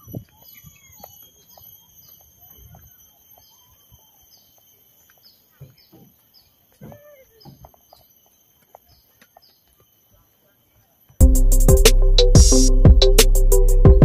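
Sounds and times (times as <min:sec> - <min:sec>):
bird high chirps: 0:00.0 - 0:11.2
lower bird calls: 0:00.0 - 0:11.2.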